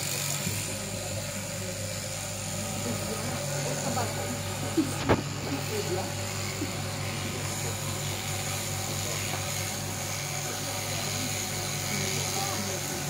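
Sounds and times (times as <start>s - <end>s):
electric sheep shears humming: 0.0s - 13.0s.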